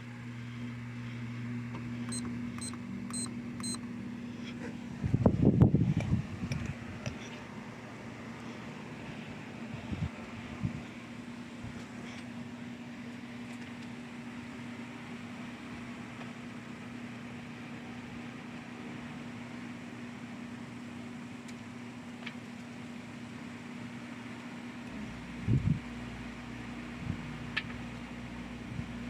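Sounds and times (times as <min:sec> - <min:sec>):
air conditioner hum and fan: 0:00.0 - 0:29.0.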